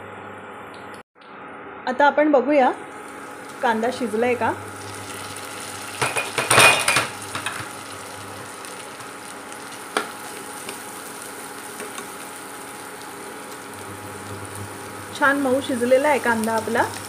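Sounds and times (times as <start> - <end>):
onion sizzling in oil: 2.8 - 17.0.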